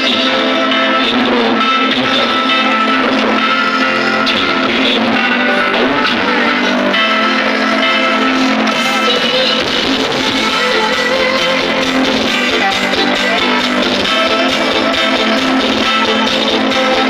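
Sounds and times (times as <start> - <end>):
guitar-led music: 0.0 - 17.0.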